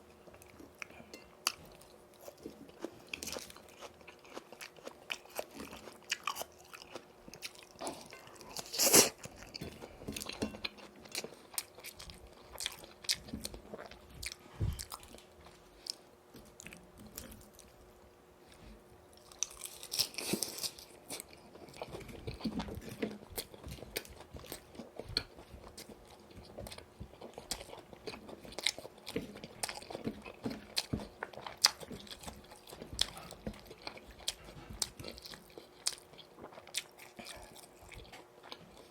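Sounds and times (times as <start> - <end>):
chewing crispy fried chicken: 0.0 - 17.9, 18.5 - 38.9.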